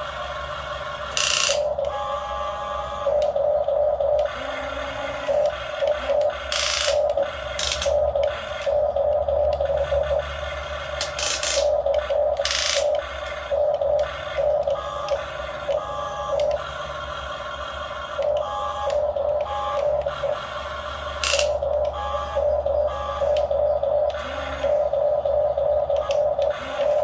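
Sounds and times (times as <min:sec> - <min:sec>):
small electric motors whining: 0:00.0 - 0:27.0
steady low hum: 0:00.0 - 0:27.0.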